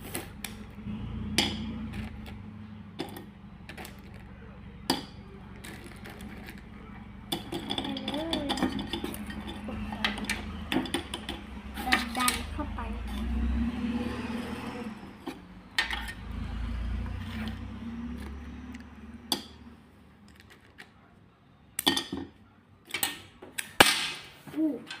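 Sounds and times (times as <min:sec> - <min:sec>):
low handling rumble: 0:00.2 - 0:20.3.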